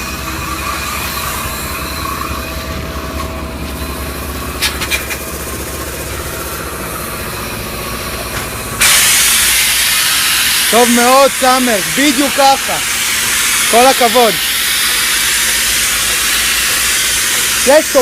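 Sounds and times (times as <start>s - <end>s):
motor running: 0.0s - 18.0s.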